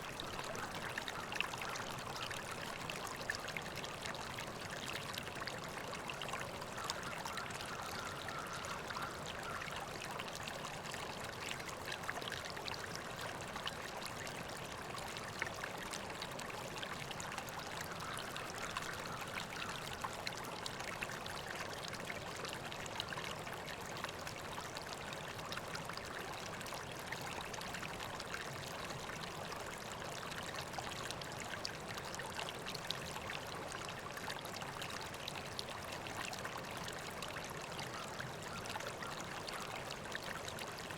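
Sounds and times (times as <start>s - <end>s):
river water flowing: 0.0s - 40.9s
small splashes and trickles: 0.0s - 40.9s.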